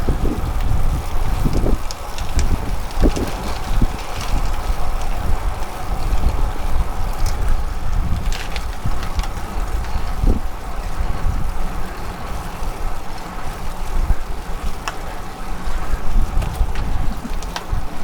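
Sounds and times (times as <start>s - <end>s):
rumble of travel: 0.0s - 18.0s
wind buffeting microphone: 0.0s - 18.0s.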